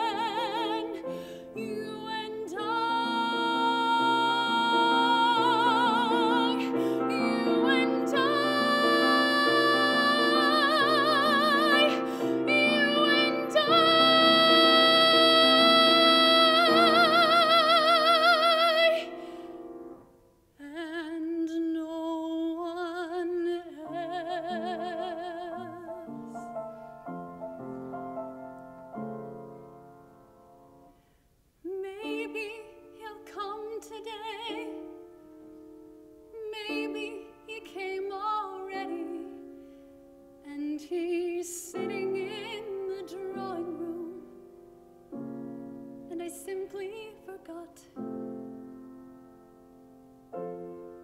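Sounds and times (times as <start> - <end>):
piano accompaniment: 0.0 - 20.2, 22.4 - 31.0, 31.7 - 51.0
soprano singing: 0.0 - 30.4, 31.6 - 39.7, 40.4 - 49.3.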